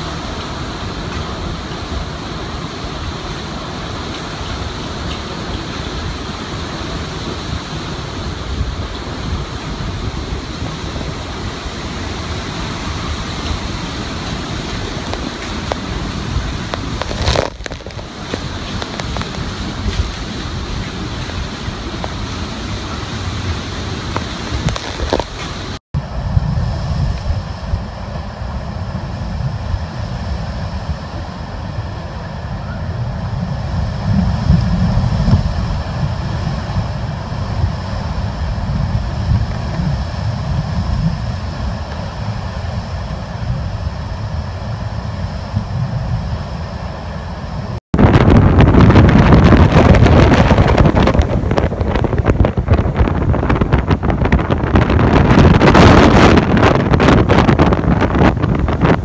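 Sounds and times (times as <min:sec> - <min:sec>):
driving rain: 0:00.0 - 0:59.0
hurricane-force wind: 0:00.0 - 0:59.0
wind buffeting microphone: 0:00.0 - 0:59.0.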